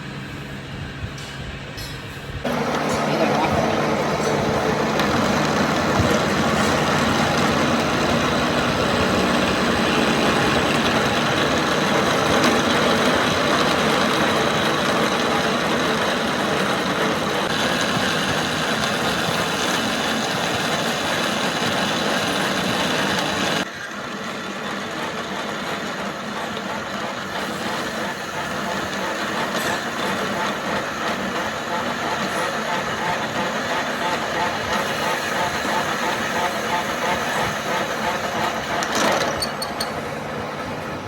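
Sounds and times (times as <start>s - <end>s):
machine running: 0.0s - 41.0s.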